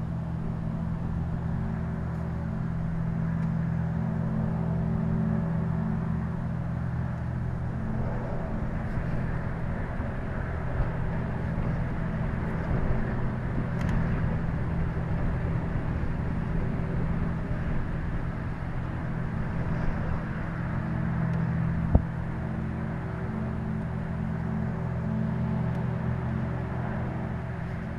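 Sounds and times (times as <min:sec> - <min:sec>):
low-pitched machinery hum: 0:00.0 - 0:27.9.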